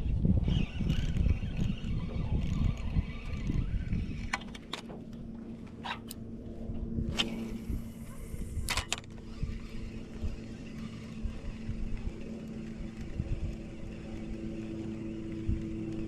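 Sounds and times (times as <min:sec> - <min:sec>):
boat motor humming: 0:00.6 - 0:16.0
sharp clicks and knocks of gear: 0:00.8 - 0:06.3, 0:08.0 - 0:16.0.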